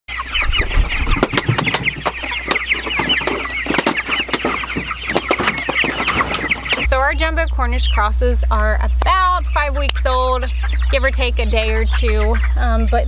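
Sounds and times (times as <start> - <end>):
chickens peeping and clucking: 0.1 - 13.0.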